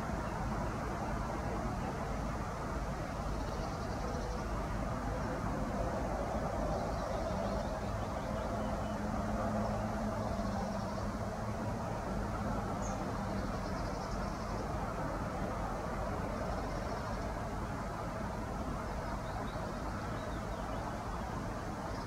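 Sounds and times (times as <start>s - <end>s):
distant traffic rumble: 0.0s - 22.0s.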